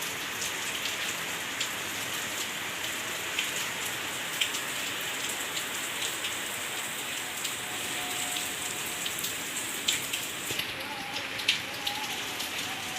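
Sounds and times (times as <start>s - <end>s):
close raindrops striking: 0.0s - 12.9s
steady rainfall: 0.0s - 12.9s.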